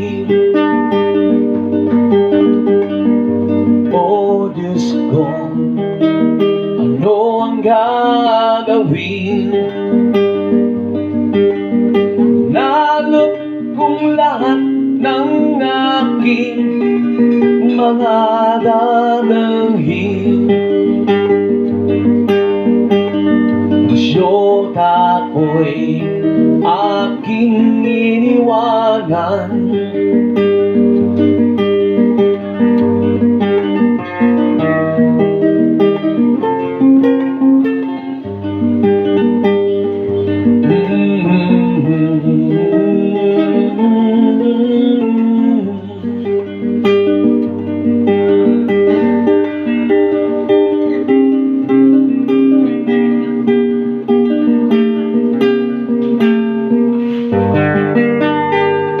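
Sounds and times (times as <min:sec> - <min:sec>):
guitar plucking: 0:00.0 - 0:59.0.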